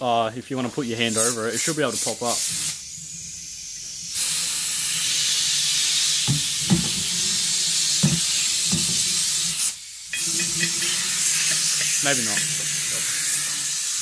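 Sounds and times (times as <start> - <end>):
compressed air hissing from hose: 0.5 - 14.0.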